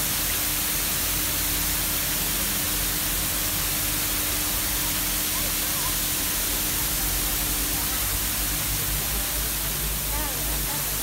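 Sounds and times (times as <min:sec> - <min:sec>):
fountain spraying water: 0:00.0 - 0:11.0.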